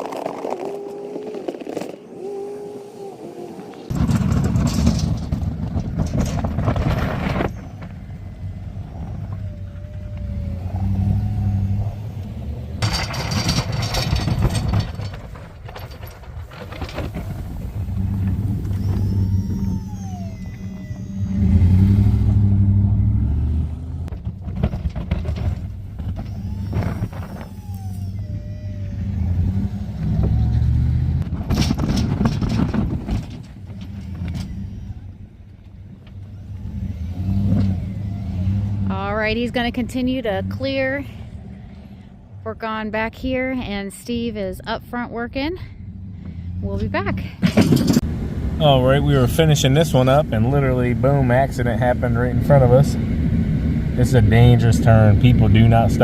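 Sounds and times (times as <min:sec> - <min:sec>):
truck engine revving: 0:00.0 - 0:42.6, 0:45.8 - 0:56.0.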